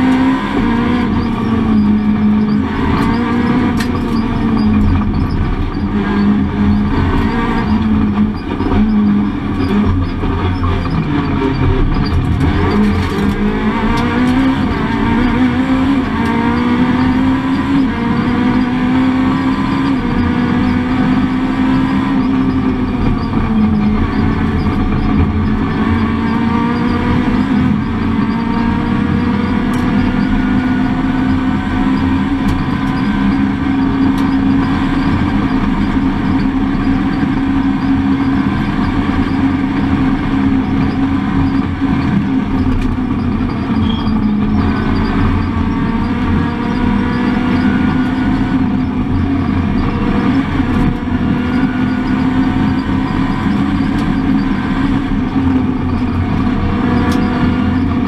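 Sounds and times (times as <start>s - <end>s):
rally car engine revving: 0.0s - 58.0s
road and tyre noise: 0.0s - 58.0s.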